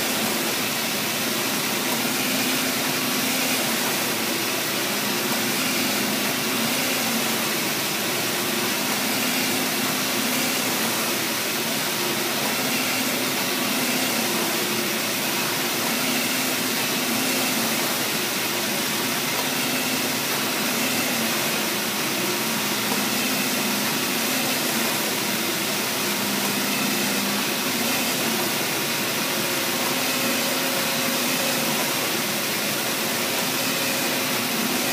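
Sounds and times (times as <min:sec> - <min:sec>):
printer machine running: 0:00.0 - 0:34.9.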